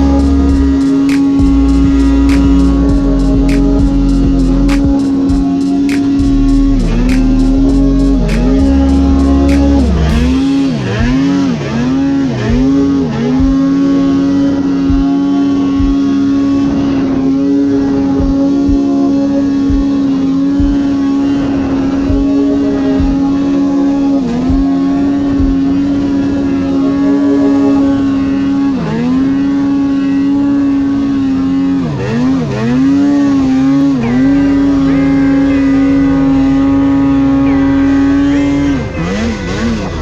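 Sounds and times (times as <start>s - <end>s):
snowmobile engine at high revs: 0.0s - 40.0s.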